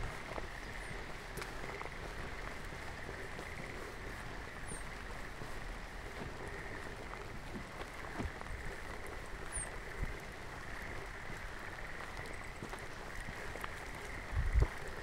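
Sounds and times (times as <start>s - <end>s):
frog chorus: 0.0s - 15.0s
soft footsteps: 0.0s - 15.0s
steady rain: 0.0s - 15.0s.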